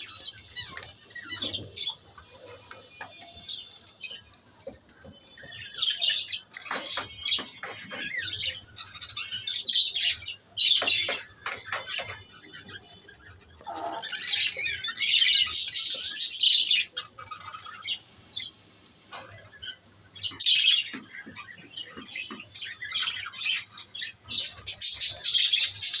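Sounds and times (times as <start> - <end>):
lovebirds chattering and squawking: 0.0 - 26.0.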